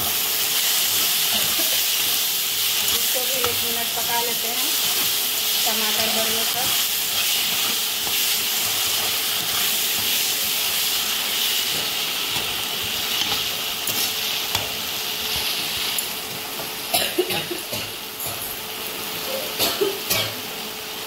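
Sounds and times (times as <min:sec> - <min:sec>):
masala sizzling in a pan: 0:00.0 - 0:21.0.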